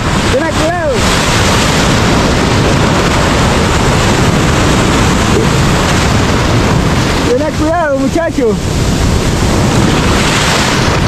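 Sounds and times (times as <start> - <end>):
ocean waves crashing: 0.0 - 11.0.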